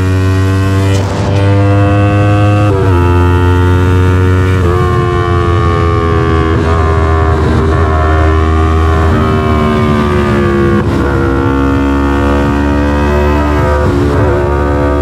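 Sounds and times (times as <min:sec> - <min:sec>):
motorcycle engine riding: 0:00.0 - 0:15.0.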